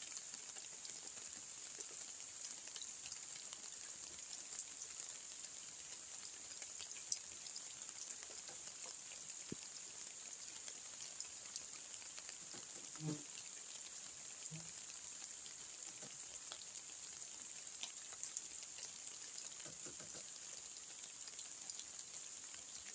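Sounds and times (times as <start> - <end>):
raindrops ticking on surfaces: 0.0 - 22.9
steady rain hiss: 0.0 - 22.9.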